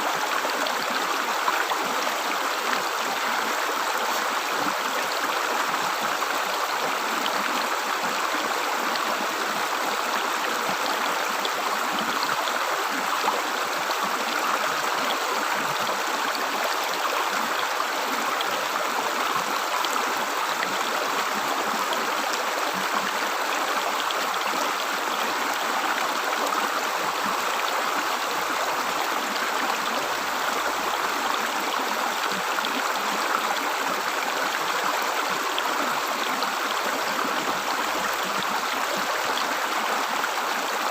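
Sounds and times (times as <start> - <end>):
river water gurgling over rocks: 0.0 - 40.9.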